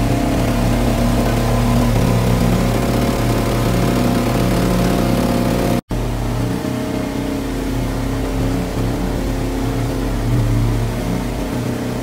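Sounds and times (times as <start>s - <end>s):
boat engine running: 0.0s - 12.0s
water rushing along hull: 0.0s - 12.0s.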